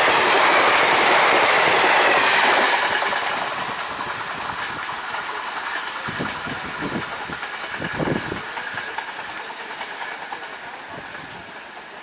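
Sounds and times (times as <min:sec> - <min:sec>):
train rushing on rails: 0:00.0 - 0:12.0.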